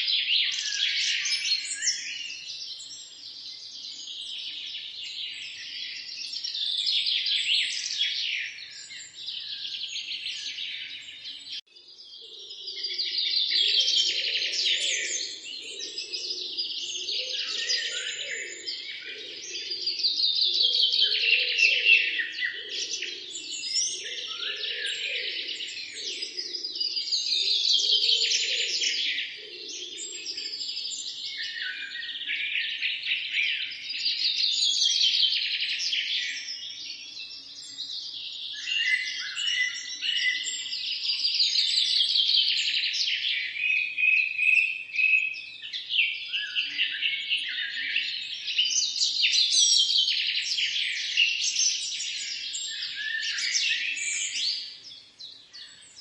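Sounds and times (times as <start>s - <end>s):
songbirds singing trilled phrases: 0.0s - 56.0s.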